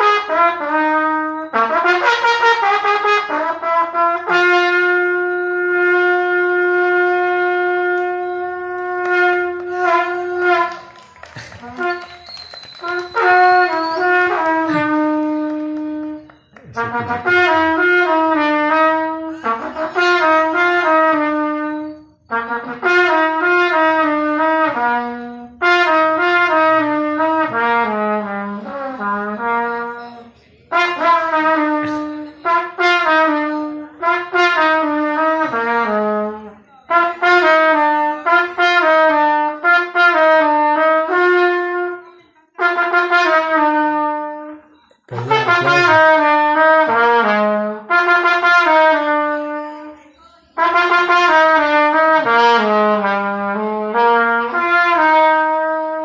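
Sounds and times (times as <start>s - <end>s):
solo trumpet melody: 0.0s - 50.0s, 50.6s - 56.0s.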